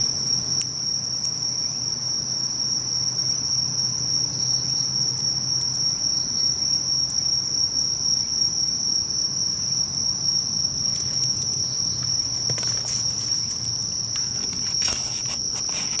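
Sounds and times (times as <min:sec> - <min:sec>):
insects trilling: 0:00.0 - 0:16.0
campfire crackling: 0:00.1 - 0:16.0.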